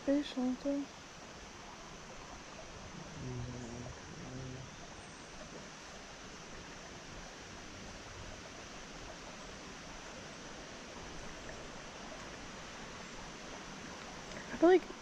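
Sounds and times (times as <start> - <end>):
creek water flowing over rocks: 0.0 - 15.0.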